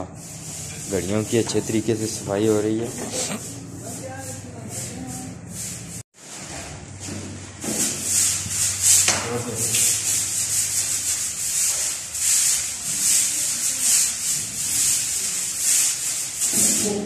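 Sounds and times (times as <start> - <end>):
broom sweeping concrete floor: 0.0 - 17.0.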